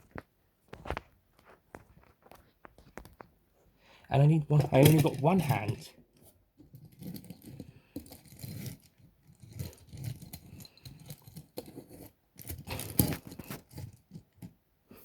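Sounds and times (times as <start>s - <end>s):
objects being handled: 0.0s - 15.0s.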